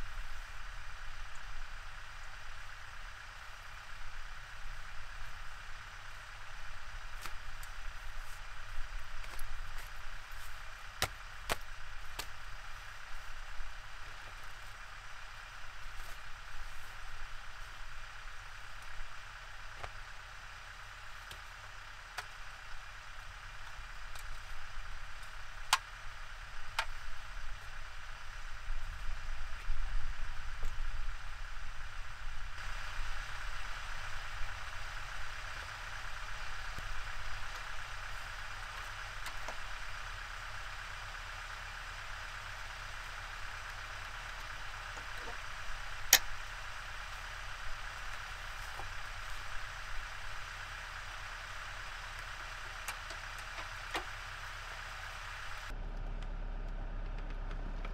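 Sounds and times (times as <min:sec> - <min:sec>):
steady outdoor hiss: 0:00.0 - 0:56.8.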